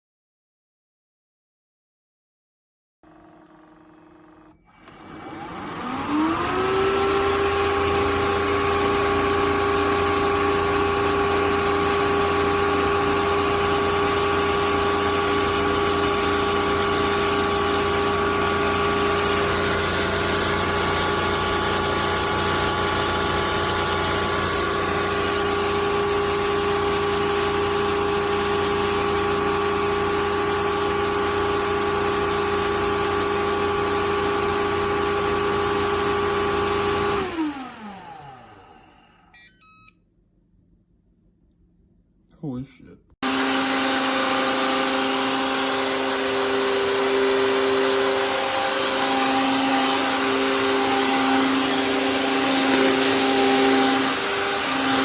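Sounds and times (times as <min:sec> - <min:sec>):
vacuum motor whine: 0:03.1 - 0:39.9, 0:43.2 - 0:55.0.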